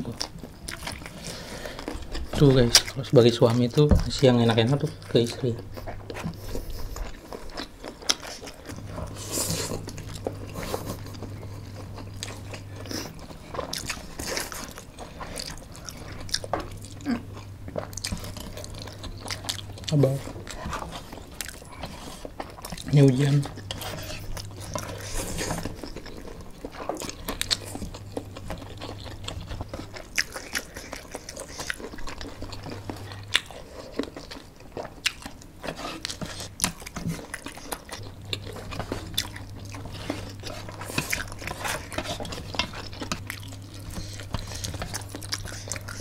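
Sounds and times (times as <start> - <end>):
people chewing and slurping noodles: 0.0 - 46.0.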